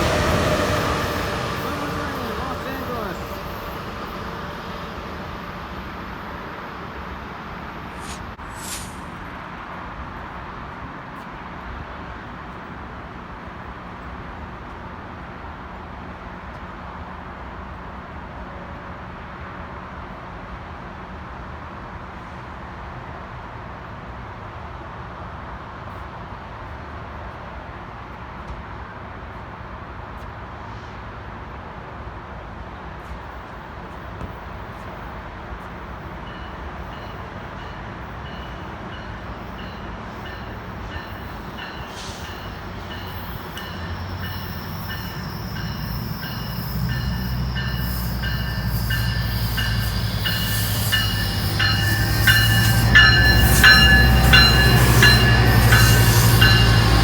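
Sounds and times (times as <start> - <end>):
train rumble: 0.0 - 20.4, 25.5 - 57.0.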